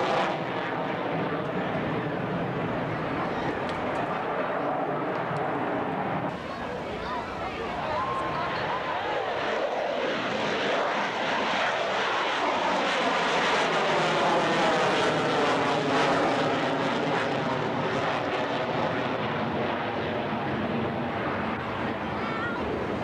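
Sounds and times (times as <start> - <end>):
aircraft flying past: 0.0 - 23.0.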